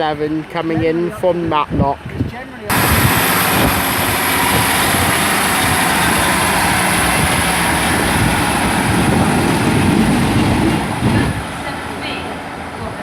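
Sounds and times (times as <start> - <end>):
train engine rumbling: 2.0 - 13.0.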